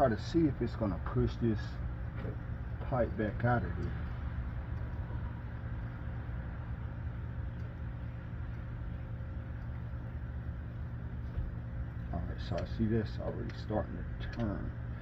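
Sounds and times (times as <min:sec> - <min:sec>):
faint even hum: 0:00.0 - 0:15.0
low background rumble: 0:00.0 - 0:15.0.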